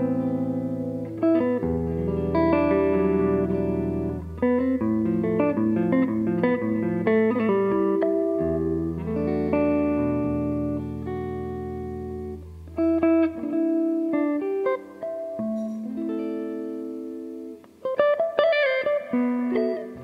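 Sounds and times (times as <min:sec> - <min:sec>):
clean electric guitar playing: 0:00.0 - 0:20.0.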